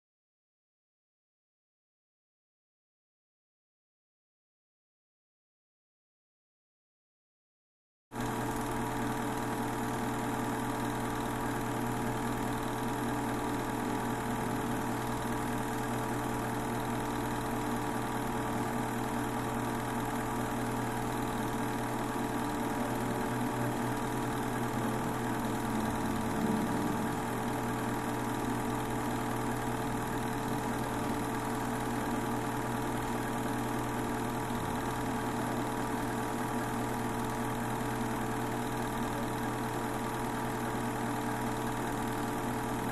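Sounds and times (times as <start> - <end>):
movie projector hum and clatter: 8.2 - 42.9.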